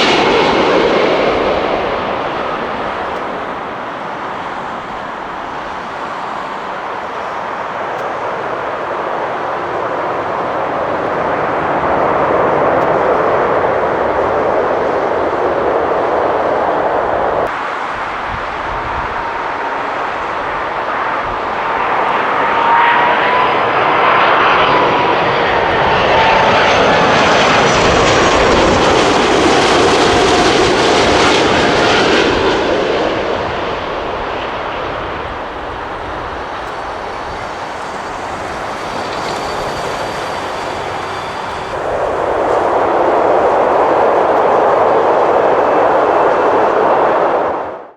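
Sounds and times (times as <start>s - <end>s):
steady rush of engine noise: 0.0s - 47.2s
jet airliner flying past: 0.0s - 47.9s.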